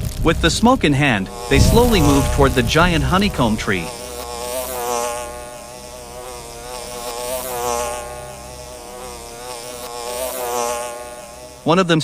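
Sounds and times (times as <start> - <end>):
bees buzzing: 0.7 - 12.0.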